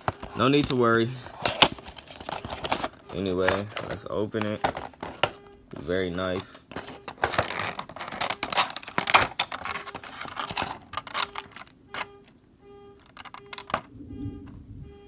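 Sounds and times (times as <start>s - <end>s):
plastic packaging crinkling: 0.0s - 12.1s, 13.0s - 13.9s.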